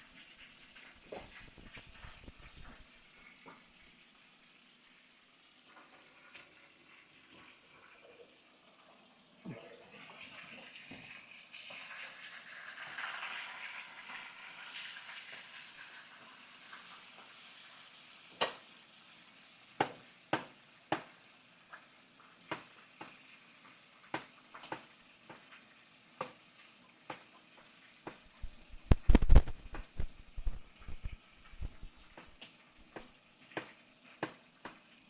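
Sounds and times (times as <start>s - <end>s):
fish frying in hot oil: 0.0s - 9.4s, 10.0s - 35.0s.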